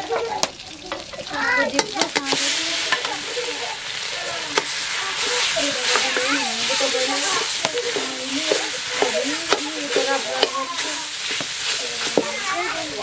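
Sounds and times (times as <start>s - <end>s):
food frying in hot oil: 0.0s - 13.0s
metal spatula scraping a pan: 1.1s - 12.9s.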